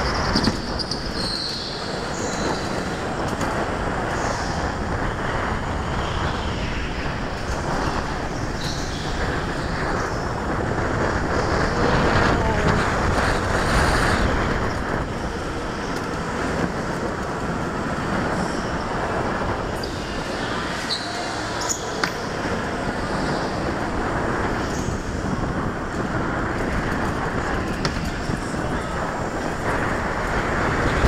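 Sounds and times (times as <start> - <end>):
go-kart driving at speed: 0.0 - 31.0.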